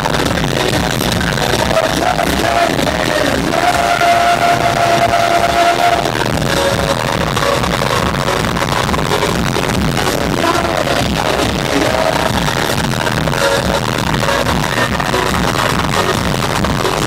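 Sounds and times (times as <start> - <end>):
loud live concert music: 0.0 - 17.0.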